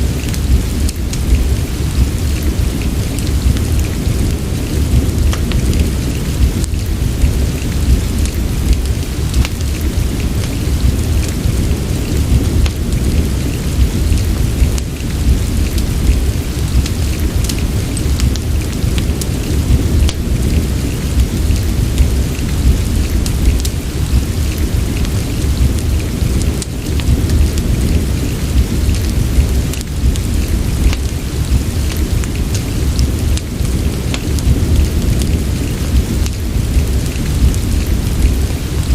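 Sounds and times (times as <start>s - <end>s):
deep low rumble: 0.0s - 38.9s
fireplace crackling: 0.0s - 38.9s
steady rain: 0.0s - 38.9s.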